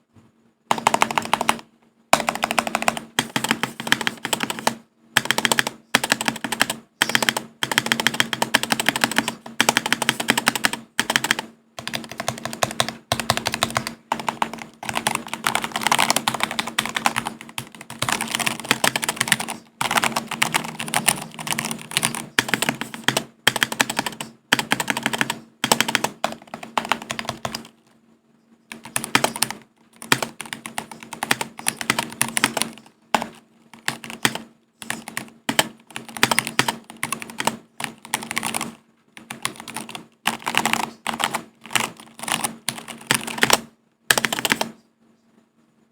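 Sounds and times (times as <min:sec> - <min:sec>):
mechanical keyboard typing: 0:00.7 - 0:27.8, 0:28.7 - 0:44.8.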